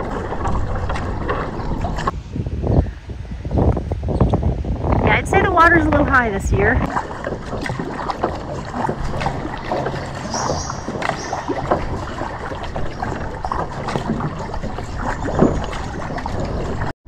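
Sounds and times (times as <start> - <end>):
paddle splashing in water: 0.0 - 2.2, 4.9 - 16.9
water dripping and gurgling: 0.0 - 2.2, 3.5 - 16.9
wind rumble on microphone: 0.0 - 16.9.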